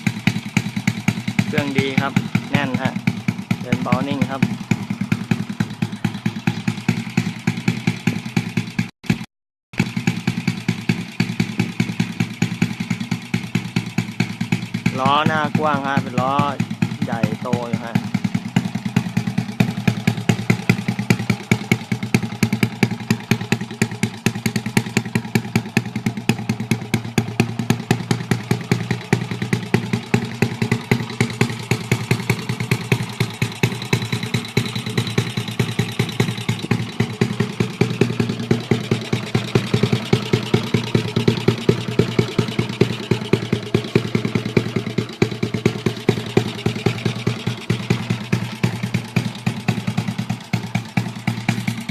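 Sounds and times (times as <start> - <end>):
motorbike engine idling: 0.0 - 51.9.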